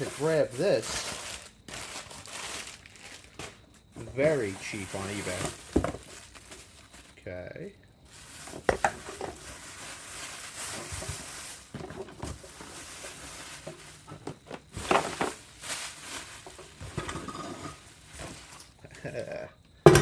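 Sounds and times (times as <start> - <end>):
packaging rustling: 0.0 - 7.2, 8.1 - 19.3.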